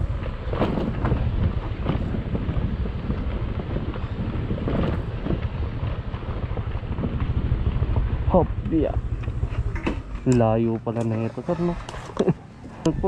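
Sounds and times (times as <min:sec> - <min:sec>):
motor scooter riding: 0:00.0 - 0:13.0
wind rumbling on microphone: 0:00.0 - 0:13.0.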